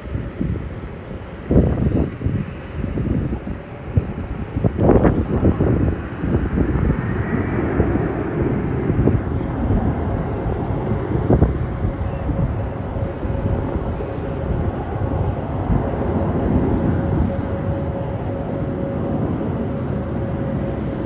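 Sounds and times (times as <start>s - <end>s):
jet engine rumble with whine: 0.0s - 21.0s
wind buffeting microphone: 0.0s - 21.0s.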